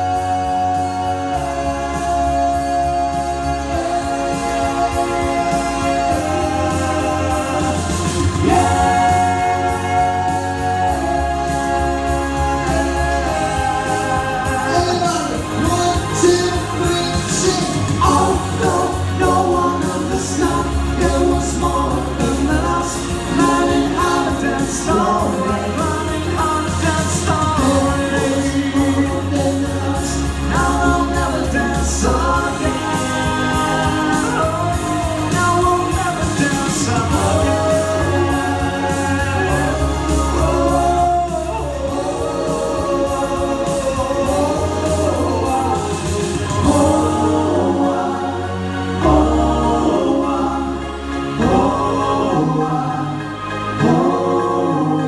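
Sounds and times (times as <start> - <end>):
amplified backing music: 0.0 - 55.0
men singing in harmony: 0.0 - 55.0.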